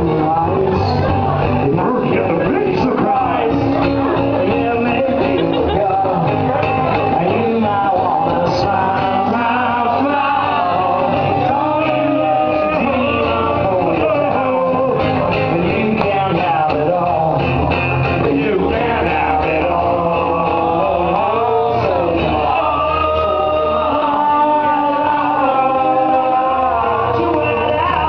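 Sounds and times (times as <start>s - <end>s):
electric guitar: 0.0s - 28.0s
men singing into microphones: 0.0s - 28.0s
strummed acoustic guitar: 0.0s - 28.0s.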